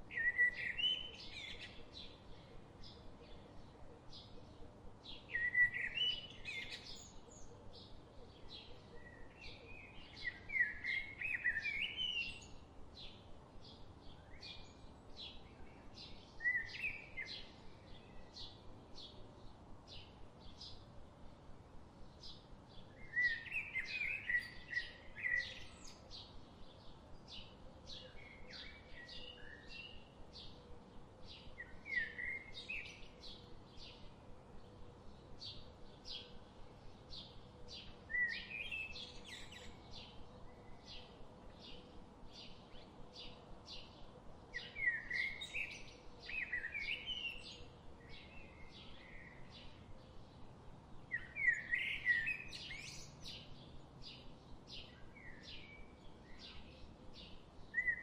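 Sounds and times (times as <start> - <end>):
warbled bird song: 0.0 - 58.0.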